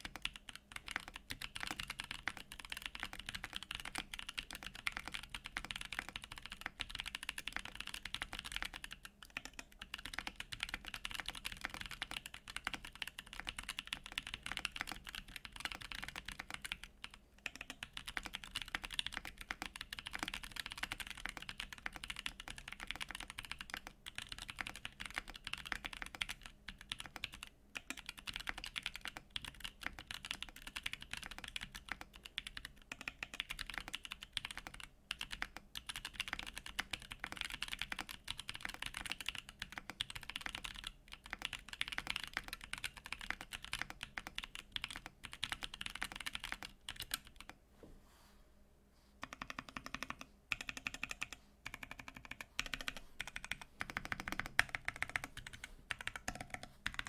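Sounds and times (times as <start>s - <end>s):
fast mechanical keyboard typing: 0.0s - 47.6s, 49.2s - 57.0s.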